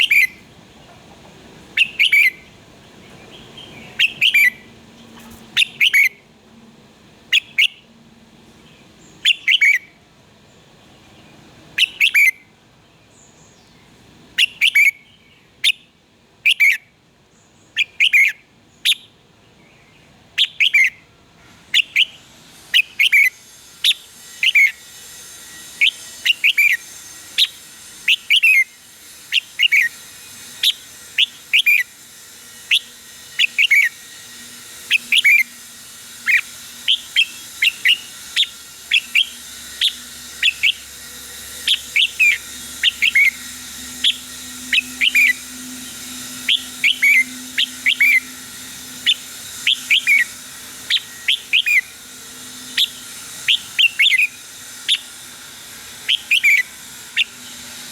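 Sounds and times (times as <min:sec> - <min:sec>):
bird singing whistled notes: 0:00.0 - 0:00.4, 0:01.8 - 0:04.8, 0:05.6 - 0:06.2, 0:08.7 - 0:10.0, 0:11.0 - 0:12.5, 0:14.4 - 0:16.8, 0:17.6 - 0:21.0, 0:21.7 - 0:57.9.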